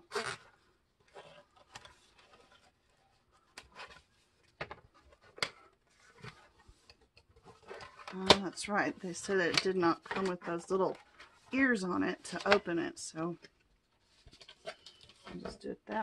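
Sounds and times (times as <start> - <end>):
paper rustling and tapping: 1.5 - 16.0.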